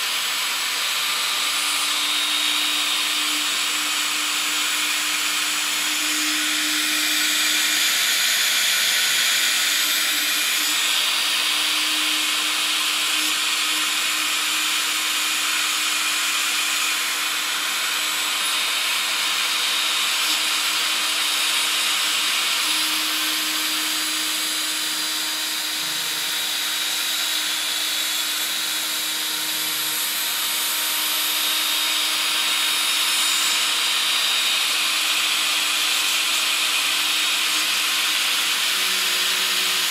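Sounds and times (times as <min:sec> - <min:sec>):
electric motor whirring: 0:00.0 - 0:39.9.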